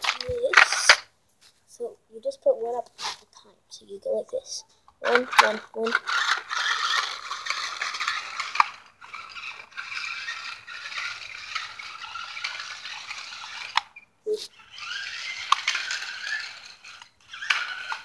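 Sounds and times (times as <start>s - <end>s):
toy car motors whirring: 0.0s - 1.1s, 2.5s - 3.3s, 4.0s - 18.0s.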